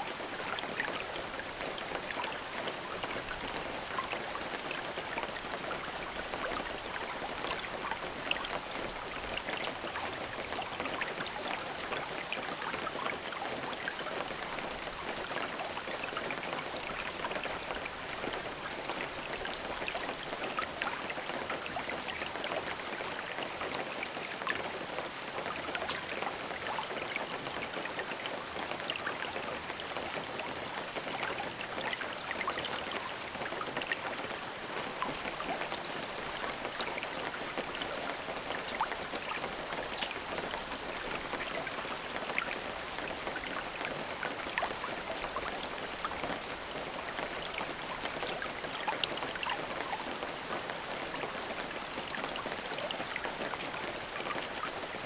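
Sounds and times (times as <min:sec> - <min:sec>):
rain drops pattering on a surface: 0:00.0 - 0:55.0.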